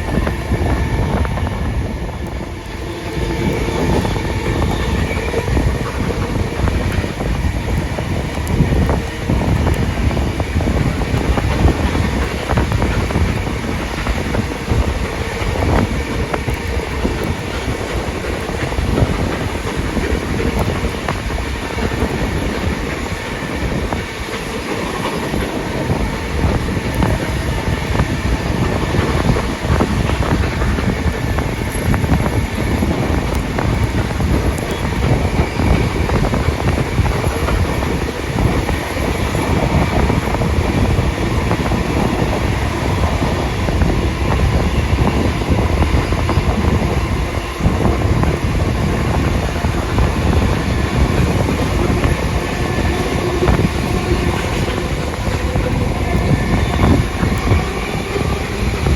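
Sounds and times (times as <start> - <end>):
train wheels on track: 0.0 - 58.9
wind: 0.0 - 58.9.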